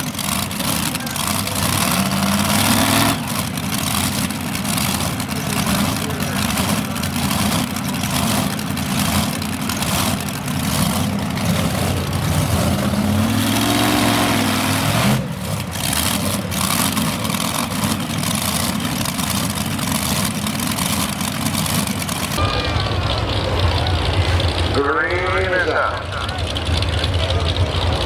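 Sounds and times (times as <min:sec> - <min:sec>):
pulling tractor engines roaring: 0:00.0 - 0:28.0.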